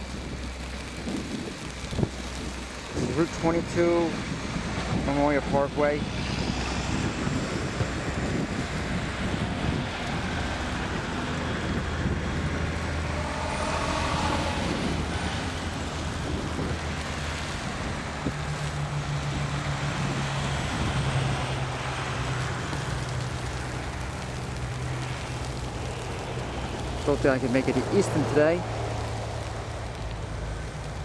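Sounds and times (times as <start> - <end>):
highway traffic passing: 0.0 - 31.0
low engine hum: 0.0 - 31.0
passing vehicle whine: 0.0 - 31.0.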